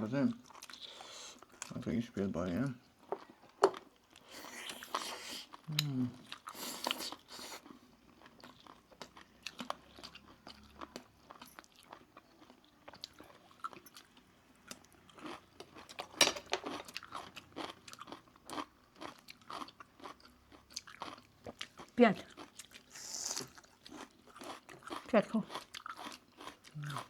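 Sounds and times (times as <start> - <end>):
chewing and crunching: 0.2 - 27.0.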